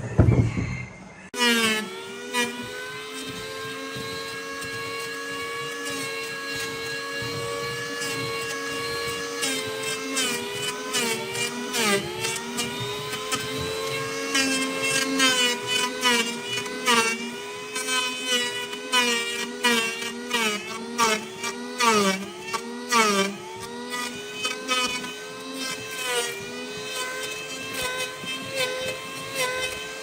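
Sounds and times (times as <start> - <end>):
chainsaw cutting wood: 1.3 - 30.0.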